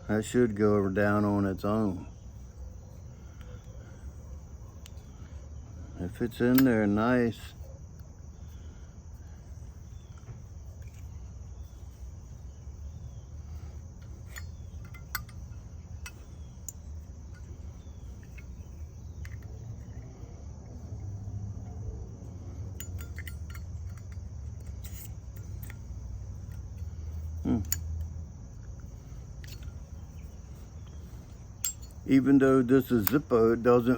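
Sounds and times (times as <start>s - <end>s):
faint insect-like chirping: 0.0s - 33.9s
low steady hum: 0.0s - 33.9s.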